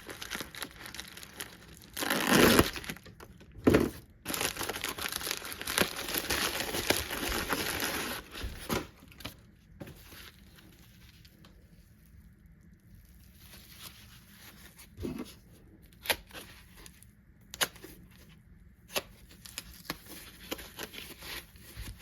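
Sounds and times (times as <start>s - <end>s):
packaging crinkling and rustling: 0.0s - 18.3s.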